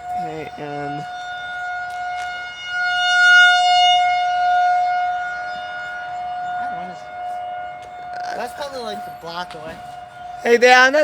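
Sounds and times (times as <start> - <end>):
rotating warning siren: 0.0 - 11.0.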